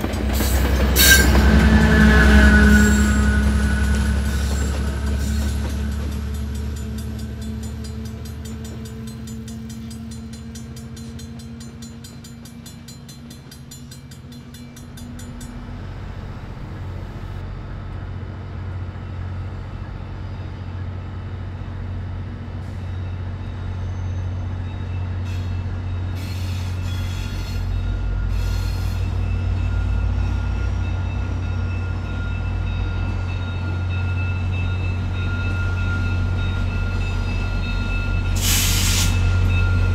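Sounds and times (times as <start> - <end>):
diesel locomotive running: 0.0 - 39.9
low rumble of diesel locomotives: 0.0 - 39.9.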